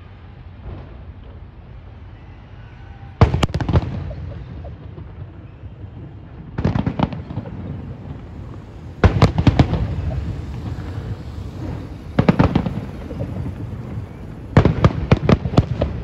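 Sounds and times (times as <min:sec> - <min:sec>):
fireworks crackling bangs: 0:00.0 - 0:02.2, 0:03.2 - 0:16.0.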